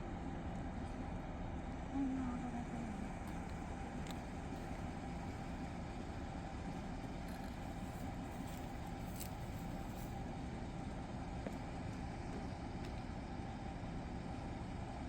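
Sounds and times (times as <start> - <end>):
street background noise: 0.0 - 15.0
vehicle engine idling: 0.0 - 15.0.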